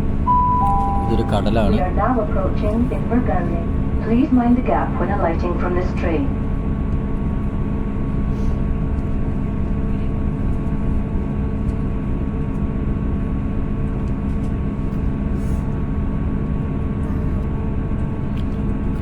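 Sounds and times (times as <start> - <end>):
train running rumble and hum: 0.0 - 19.0.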